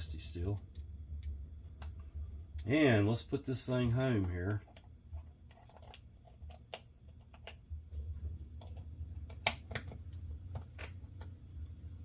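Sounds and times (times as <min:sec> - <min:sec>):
low hum: 0:00.0 - 0:05.6, 0:07.0 - 0:12.0.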